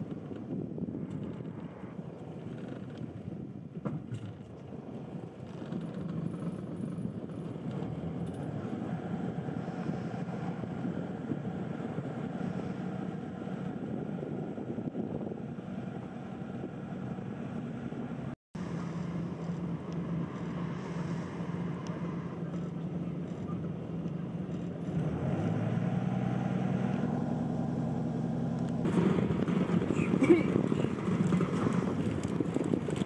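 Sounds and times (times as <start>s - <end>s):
engine running with low hum: 0.0s - 33.0s.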